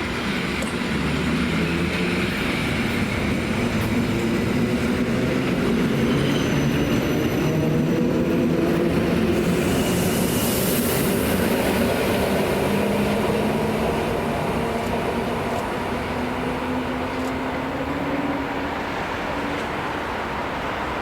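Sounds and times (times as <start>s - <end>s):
train rail noise: 0.0s - 21.0s.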